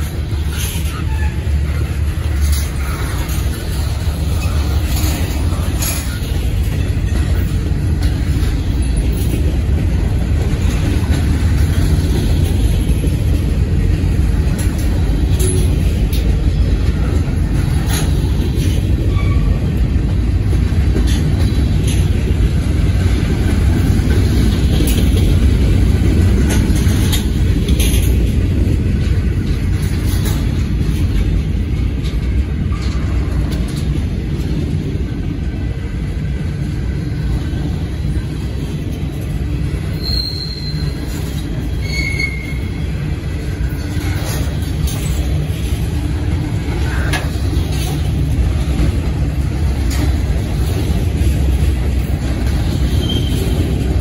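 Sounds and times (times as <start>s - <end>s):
steel train wheels rumbling: 0.0s - 54.0s.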